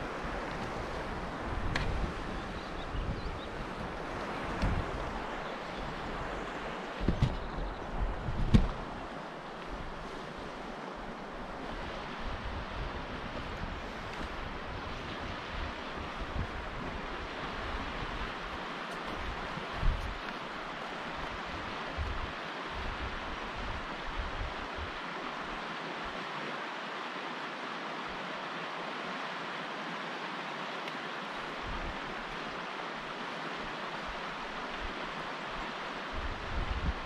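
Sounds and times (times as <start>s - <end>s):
low wind buffets: 0.0s - 26.6s, 31.1s - 37.0s
wind hiss on microphone: 0.0s - 37.0s.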